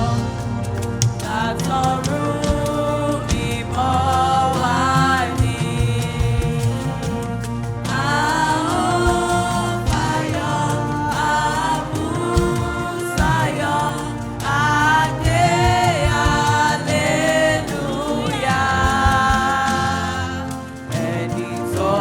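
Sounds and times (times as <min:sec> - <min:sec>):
choir singing a hymn: 0:00.0 - 0:22.0.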